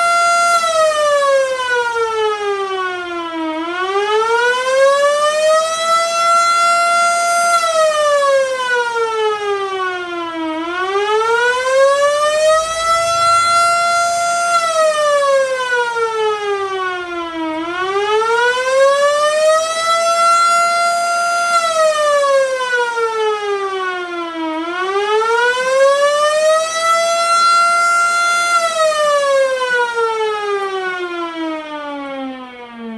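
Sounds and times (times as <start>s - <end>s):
emergency vehicle siren wailing: 0.0s - 32.9s.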